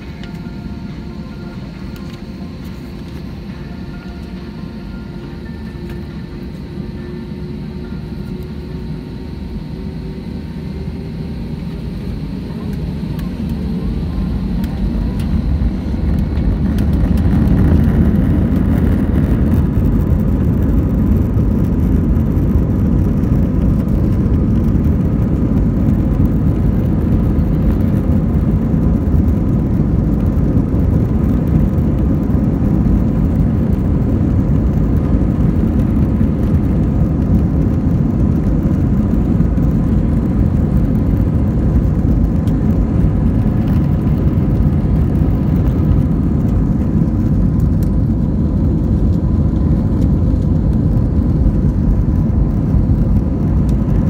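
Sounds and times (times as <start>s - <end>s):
jet engines at takeoff thrust: 0.0s - 54.0s
thin steady whine: 0.0s - 54.0s.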